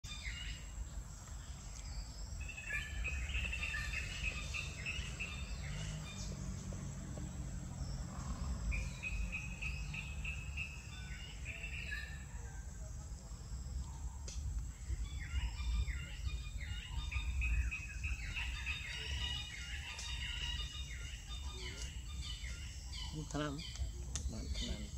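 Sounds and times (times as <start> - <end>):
birds chirping: 0.0 - 24.9
high-pitched insect whine: 0.1 - 13.8, 14.6 - 24.9
low uneven rumble: 0.4 - 24.9.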